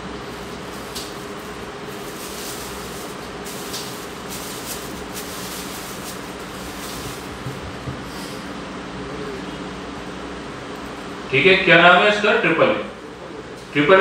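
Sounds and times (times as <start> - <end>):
fan-like hiss: 0.0 - 14.0.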